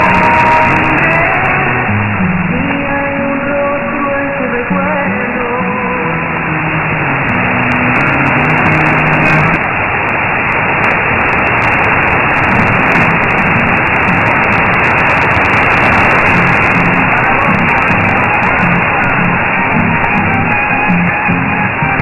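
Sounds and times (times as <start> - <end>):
faint radio music: 0.0 - 9.7, 11.4 - 22.0
radio static hiss: 0.0 - 22.0.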